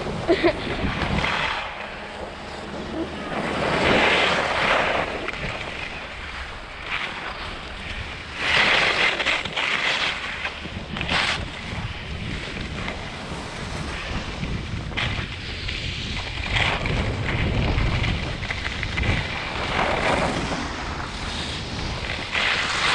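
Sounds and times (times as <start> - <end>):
wind buffeting microphone: 0.0 - 9.5, 10.3 - 22.9.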